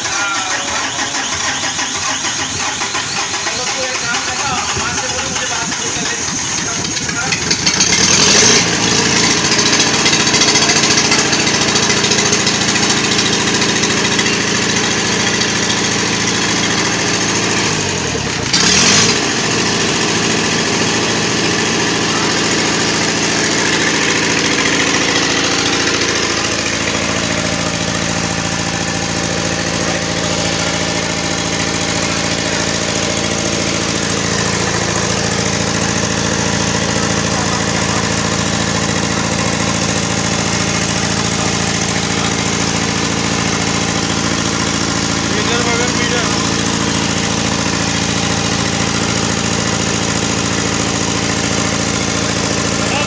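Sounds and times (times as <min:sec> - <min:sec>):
diesel generator running: 0:00.0 - 0:53.0.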